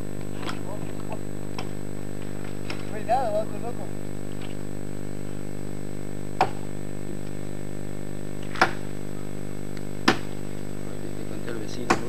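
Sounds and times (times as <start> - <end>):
faint high whine: 0.0 - 12.0
low electrical hum: 0.0 - 12.0.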